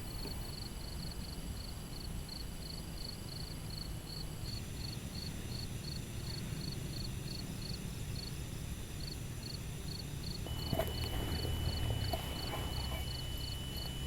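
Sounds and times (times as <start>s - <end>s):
insects chirping: 0.0s - 14.0s
low outdoor rumble: 0.0s - 14.0s.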